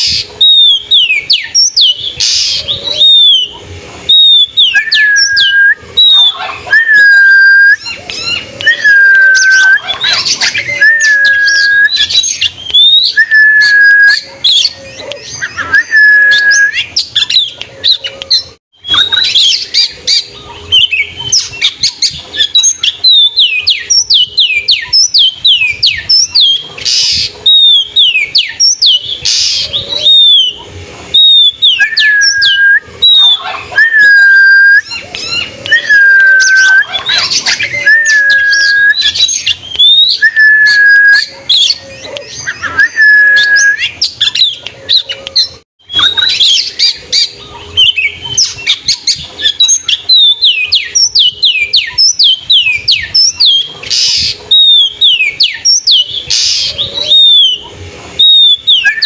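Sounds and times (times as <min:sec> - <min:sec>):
long level bird whistles: 0:00.0 - 0:59.0.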